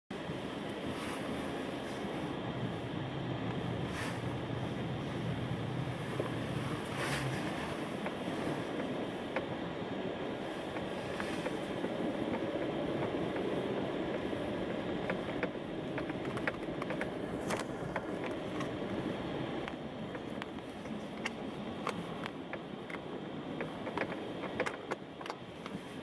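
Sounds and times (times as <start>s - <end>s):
tyres and engine rumble: 0.1s - 26.0s.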